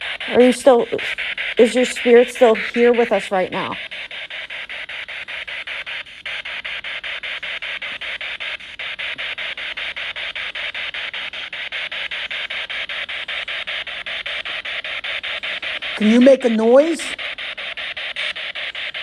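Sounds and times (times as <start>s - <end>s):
pulsing radio static: 0.0s - 19.0s.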